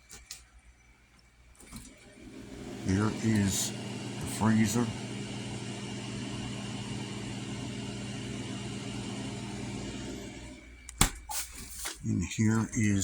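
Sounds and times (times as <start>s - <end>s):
refrigerator humming: 1.5s - 13.0s.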